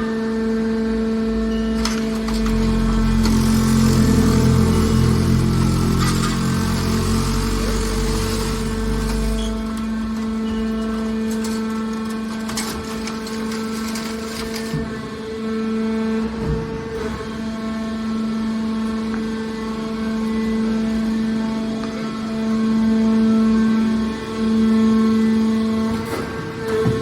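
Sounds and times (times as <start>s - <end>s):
hydraulic pump hum: 0.0s - 27.0s.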